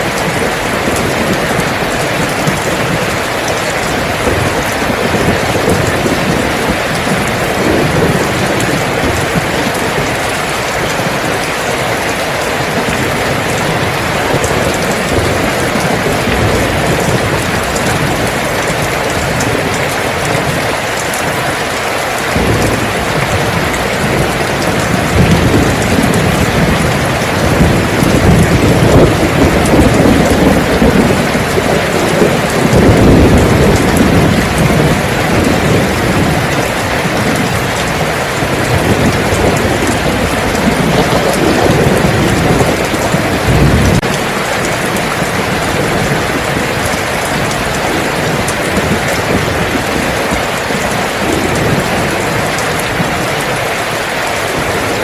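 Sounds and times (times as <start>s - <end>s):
rain falling: 0.0s - 55.0s
thunder rumbling: 0.0s - 55.0s.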